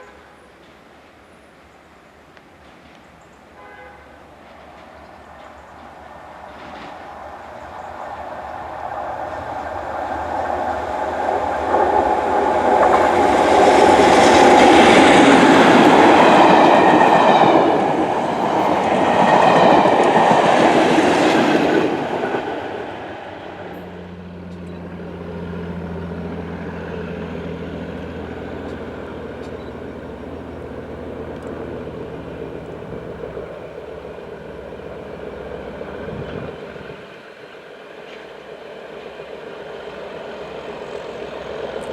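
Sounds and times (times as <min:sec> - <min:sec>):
diesel train passing: 0:00.0 - 0:41.9.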